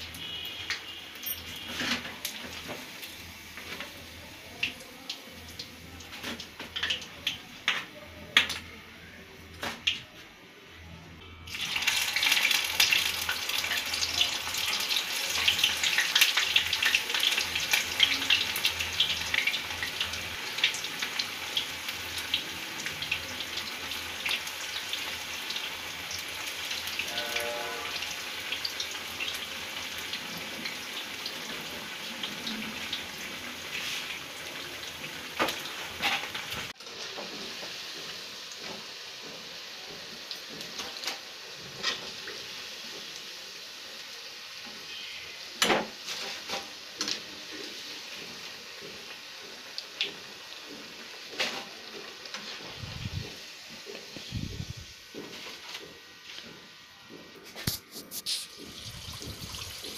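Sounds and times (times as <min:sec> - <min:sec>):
food deep-frying in sizzling oil: 0:00.0 - 0:08.6, 0:11.5 - 0:59.9.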